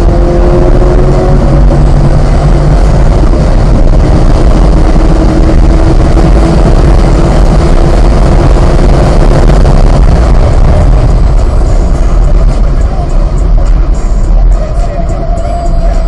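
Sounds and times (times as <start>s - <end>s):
car engine at full throttle: 0.0s - 16.0s
wind and road noise: 0.0s - 16.0s.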